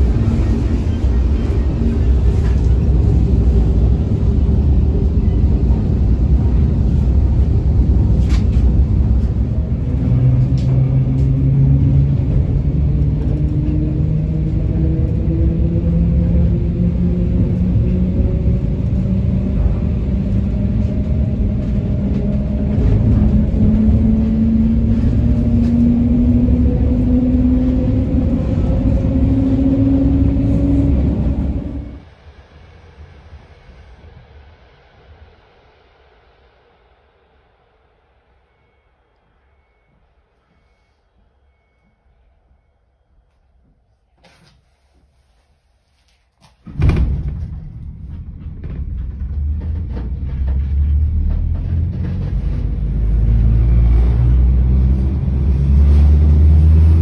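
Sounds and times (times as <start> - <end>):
train running rumble: 0.0 - 42.0, 46.4 - 57.0.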